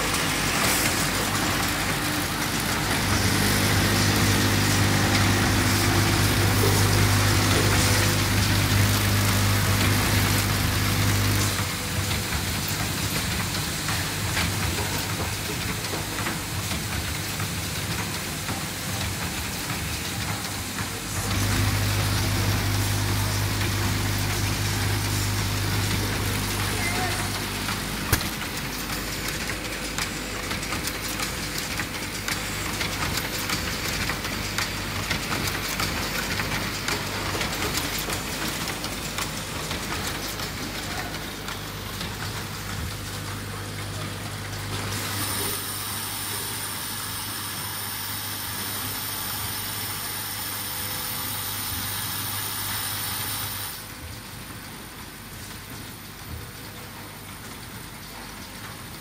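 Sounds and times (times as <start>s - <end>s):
machine hum: 0.0s - 54.0s.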